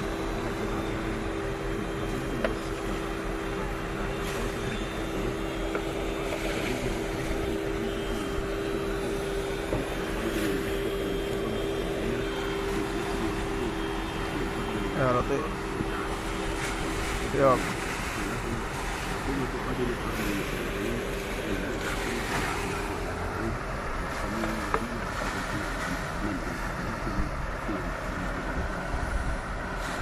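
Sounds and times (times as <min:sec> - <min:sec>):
faint voices: 0:00.0 - 0:30.0
floodwater rushing: 0:00.0 - 0:30.0
steady two-note hum: 0:00.0 - 0:30.0.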